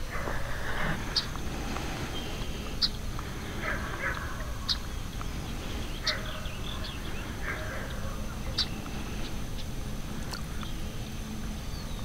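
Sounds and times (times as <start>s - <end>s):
low outdoor rumble: 0.0s - 12.0s
bird chirps: 1.1s - 12.0s.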